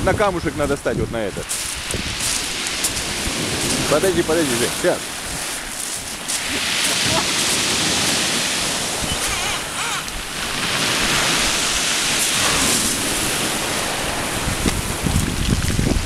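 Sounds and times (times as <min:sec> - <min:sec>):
wind buffeting microphone: 0:00.0 - 0:16.0
surf breaking on pebble beach: 0:00.3 - 0:16.0.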